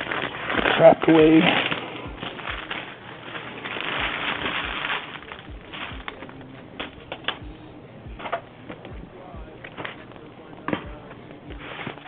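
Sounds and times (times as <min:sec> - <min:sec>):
packaging rustling: 0:00.0 - 0:07.4, 0:09.7 - 0:12.0.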